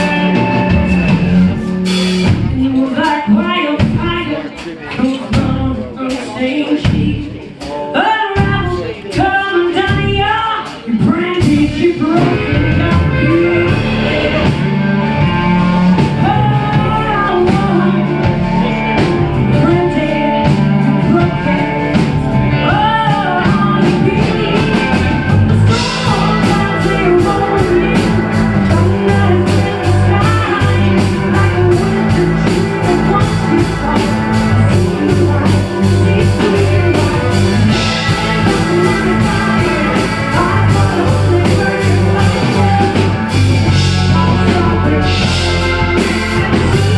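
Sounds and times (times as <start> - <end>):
drums with cymbal strokes: 0.0 - 22.2, 22.8 - 46.9
blues-rock band playing: 0.0 - 46.9.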